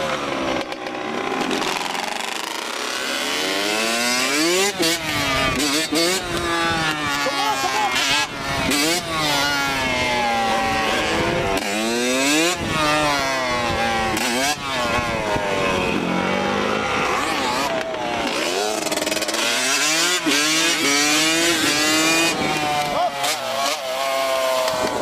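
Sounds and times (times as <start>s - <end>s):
dirt bike and quad engines revving: 0.0s - 25.0s.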